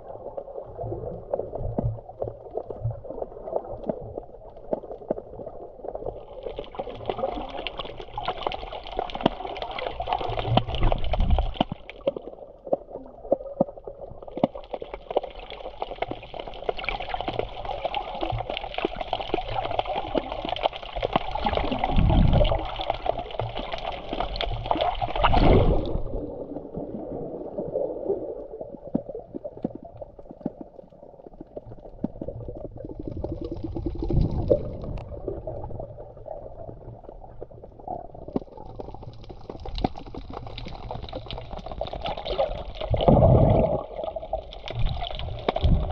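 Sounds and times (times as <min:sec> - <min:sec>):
sea water sloshing and gurgling: 0:00.0 - 0:45.9.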